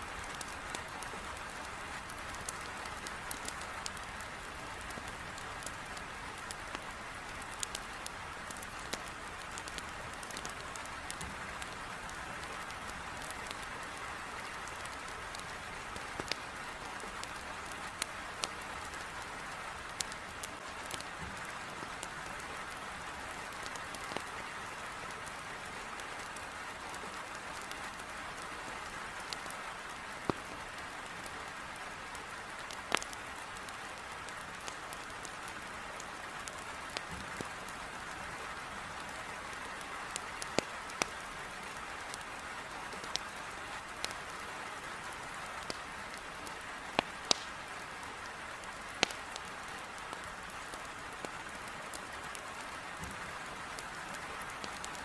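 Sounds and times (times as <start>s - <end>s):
firewood crackling and popping: 0.0s - 55.0s
heavy rain on a window: 0.0s - 55.0s.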